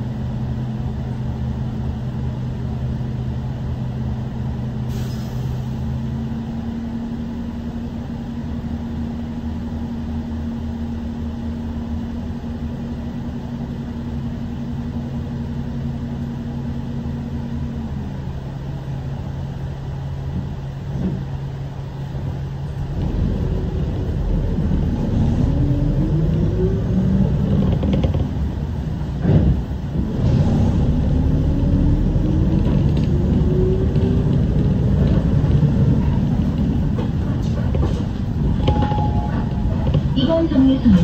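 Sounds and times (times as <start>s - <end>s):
bus engine idling and accelerating: 0.0s - 41.0s.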